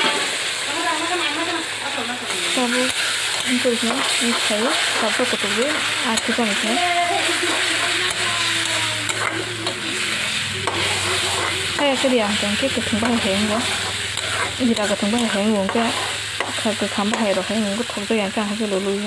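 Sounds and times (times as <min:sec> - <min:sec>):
food sizzling in oil: 0:00.0 - 0:19.0
metal spatula scraping pan: 0:02.3 - 0:17.6.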